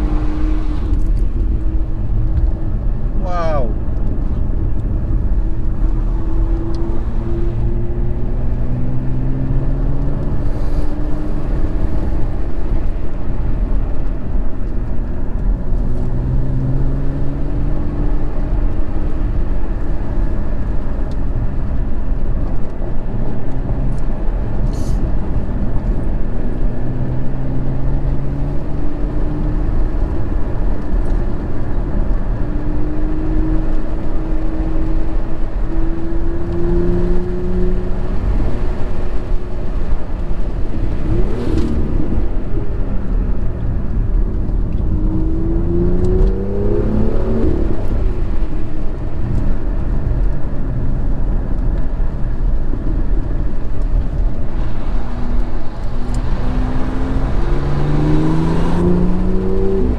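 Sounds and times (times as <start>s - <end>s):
car engine accelerating through gears: 0.0s - 59.9s
road and tyre noise: 0.0s - 59.9s.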